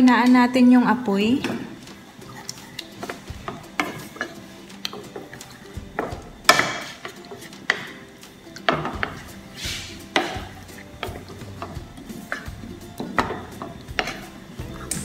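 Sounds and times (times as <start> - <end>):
wooden spoon scraping a pan: 1.4 - 14.9.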